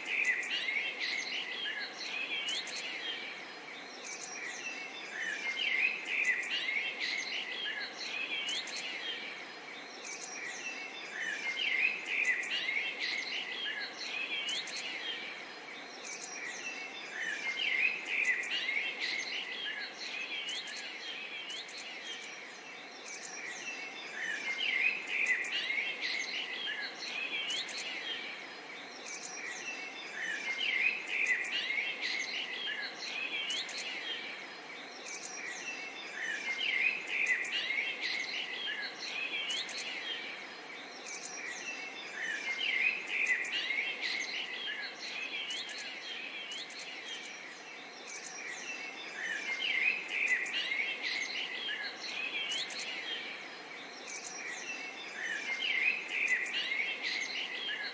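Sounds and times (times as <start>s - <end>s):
soft outdoor background hiss: 0.0s - 57.9s
songbirds singing and chirping: 0.0s - 57.9s.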